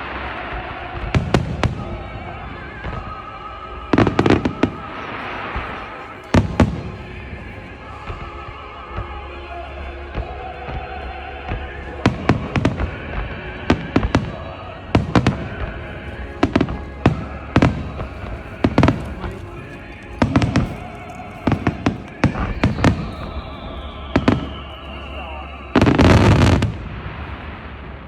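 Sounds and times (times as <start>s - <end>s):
fireworks bursting with sharp bangs: 0.0s - 9.3s, 10.1s - 28.0s
music playing: 0.0s - 28.0s.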